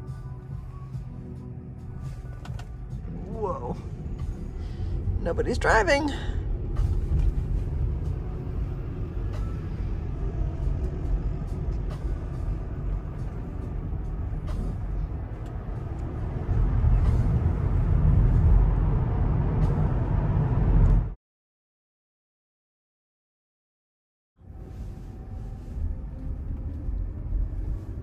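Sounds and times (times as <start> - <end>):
road and tyre rumble: 0.0 - 21.2, 24.4 - 28.0.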